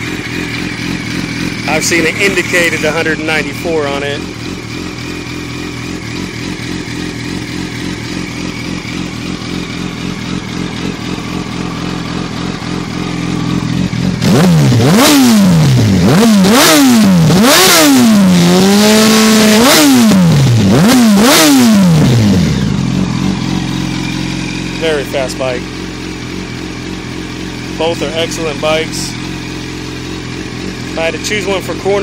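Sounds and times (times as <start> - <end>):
motorcycle engine idling: 0.0 - 32.0
motorcycle engine revving: 0.0 - 32.0.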